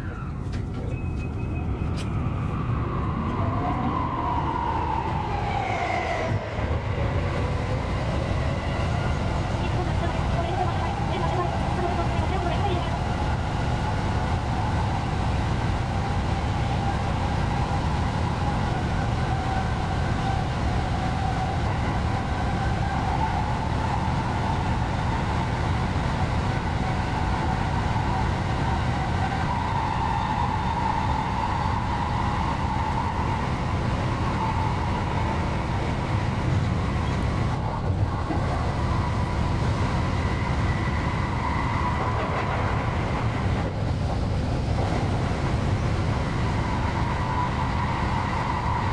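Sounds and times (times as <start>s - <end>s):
electric train rumble: 0.0s - 48.9s.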